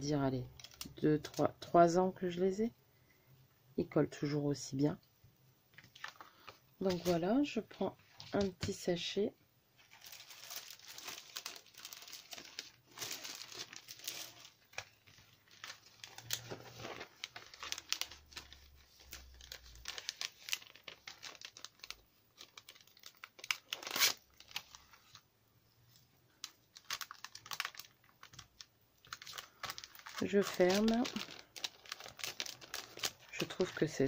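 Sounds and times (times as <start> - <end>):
plastic sleeve crinkling: 0.2 - 1.7, 5.7 - 8.8, 9.8 - 25.3, 25.9 - 34.0.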